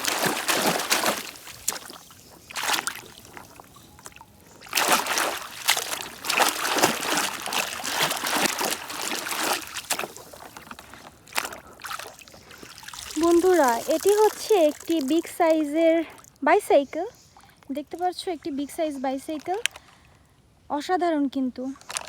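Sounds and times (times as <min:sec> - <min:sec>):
water splashing and trickling: 0:00.0 - 0:20.1.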